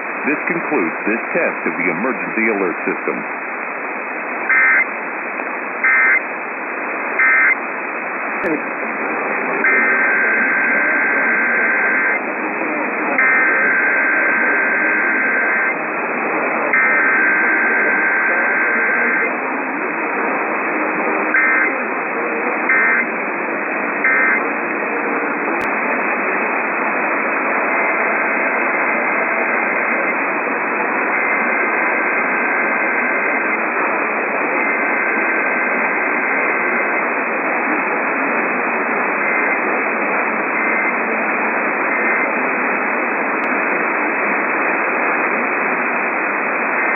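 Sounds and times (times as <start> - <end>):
heavy radio static: 0.0 - 46.9.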